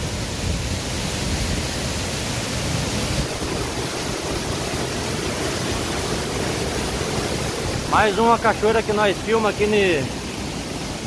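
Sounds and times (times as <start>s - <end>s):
waterfall pouring into pool: 0.0s - 11.0s.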